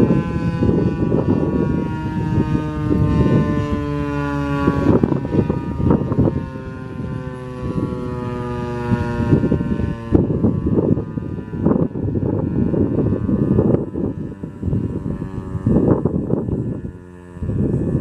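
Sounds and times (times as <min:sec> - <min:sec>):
warning siren winding down: 0:00.0 - 0:18.0
wind rumbling on microphone: 0:00.0 - 0:18.0.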